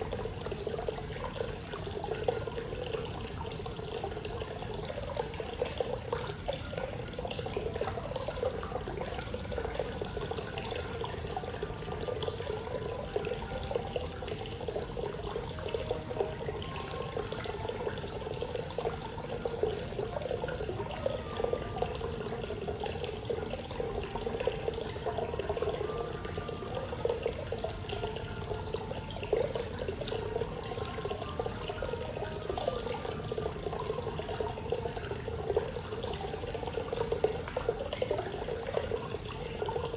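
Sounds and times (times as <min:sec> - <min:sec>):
water pouring into bath: 0:00.0 - 0:39.9.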